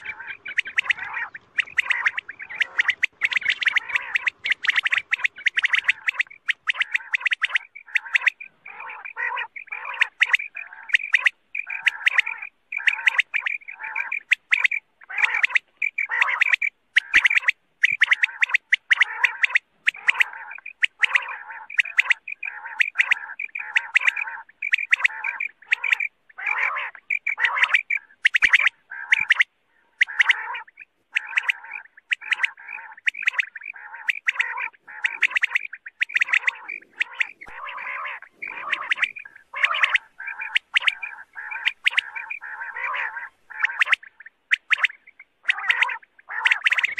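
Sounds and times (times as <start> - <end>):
quail chirping calls: 0.0 - 46.9.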